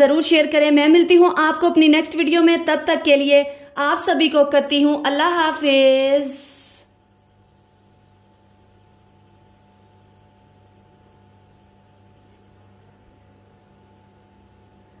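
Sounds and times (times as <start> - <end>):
faint electrical hum: 0.0 - 15.0
high insect trill: 0.0 - 15.0.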